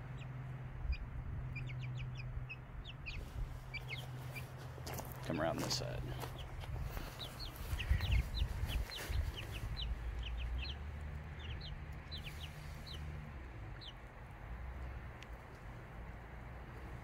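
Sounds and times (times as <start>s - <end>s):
chicks peeping: 0.0s - 15.7s.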